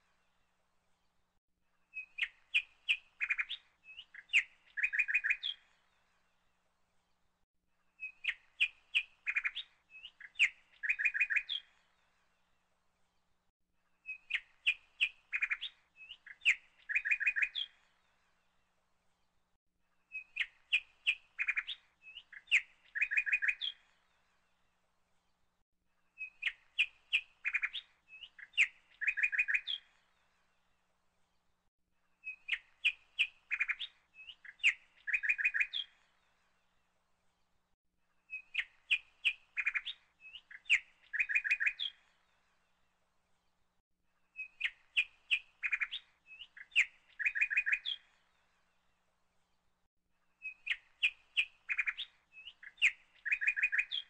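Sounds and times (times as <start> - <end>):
bird chirping: 1.8 - 6.4, 7.9 - 12.6, 14.0 - 18.6, 20.0 - 24.6, 26.0 - 31.5, 32.2 - 37.5, 38.1 - 43.6, 44.2 - 49.6, 50.2 - 54.0.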